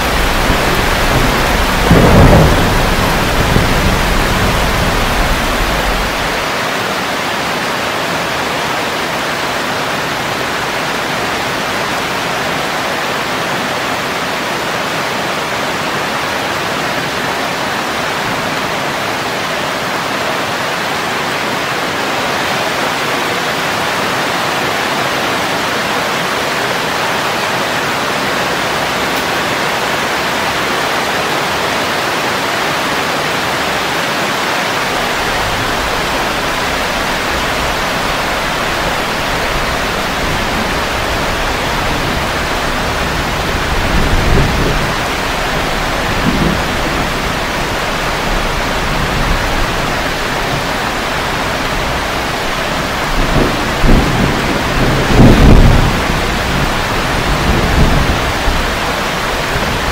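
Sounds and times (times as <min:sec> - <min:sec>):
heavy rain on leaves: 0:00.0 - 0:59.9.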